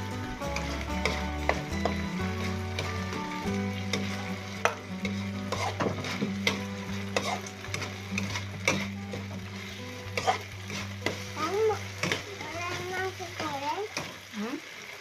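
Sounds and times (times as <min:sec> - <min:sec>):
spatula scraping a wok: 0:00.0 - 0:14.2
frying sizzle: 0:00.0 - 0:15.0.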